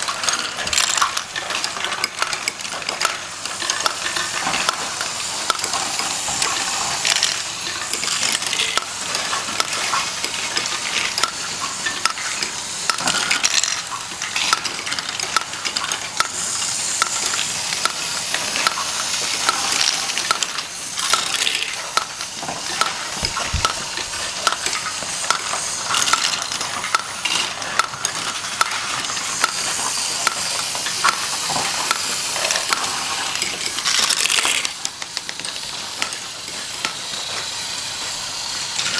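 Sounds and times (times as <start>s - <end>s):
plastic bricks rattling and clicking: 0.0s - 37.5s.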